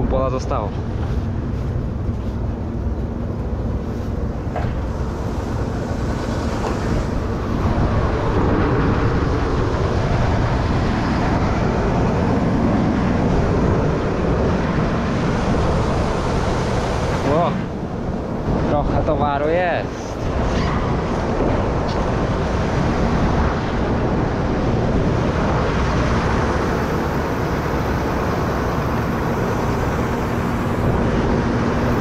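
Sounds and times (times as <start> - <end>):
farm machinery engine running: 0.2 - 32.0.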